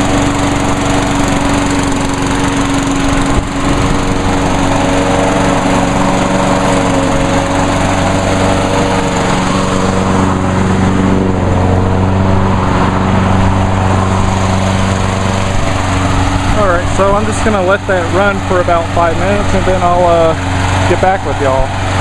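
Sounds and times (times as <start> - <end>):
lawnmower engine running: 0.0 - 22.0.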